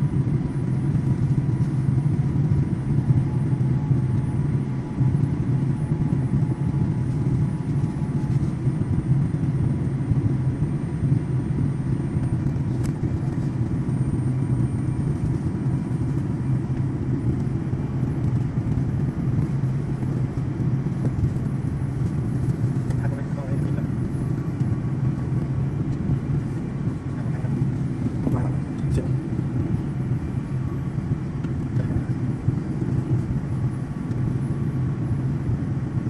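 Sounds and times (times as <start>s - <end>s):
jet airliner cabin rumble: 0.0s - 36.0s.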